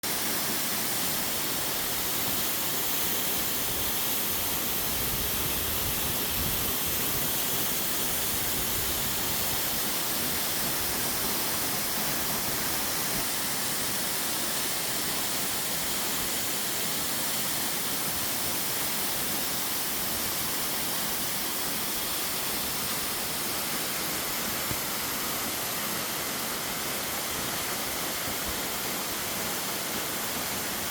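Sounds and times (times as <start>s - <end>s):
waterfall over rock steps: 0.0s - 30.9s.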